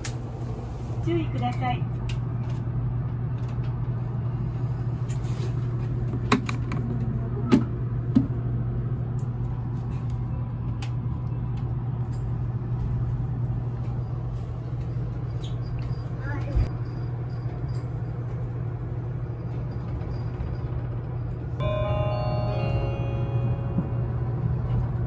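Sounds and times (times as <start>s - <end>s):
train car interior hum: 0.0s - 25.0s.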